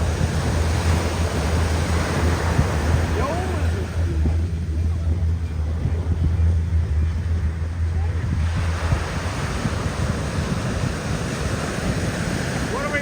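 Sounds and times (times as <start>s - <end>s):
ocean surf washing on beach: 0.0s - 13.0s
wind buffeting microphone: 0.0s - 13.0s.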